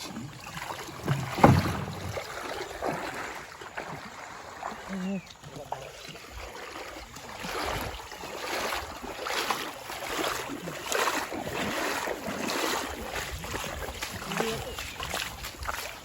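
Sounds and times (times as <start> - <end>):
water rushing and splashing: 0.0 - 16.0.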